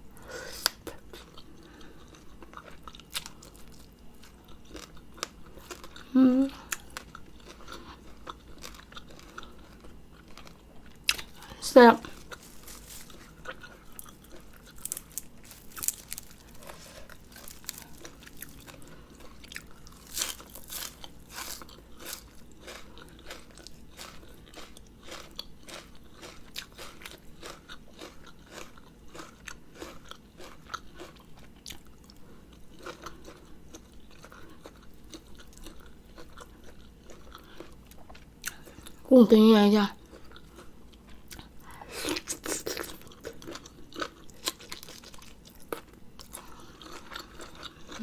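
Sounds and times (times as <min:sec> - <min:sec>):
chewing and crunching: 0:00.7 - 0:39.1, 0:40.0 - 0:48.0.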